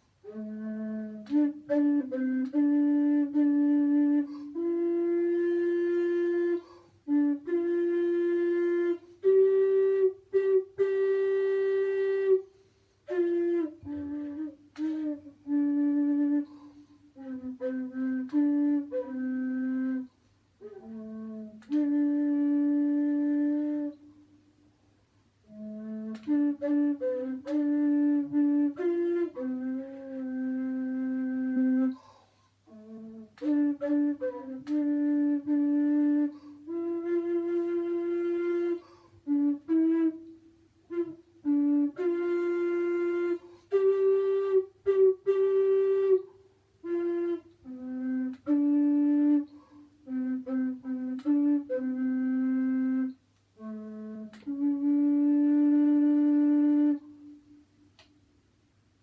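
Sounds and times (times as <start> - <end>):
woodwind playing slow melody: 0.0 - 58.2.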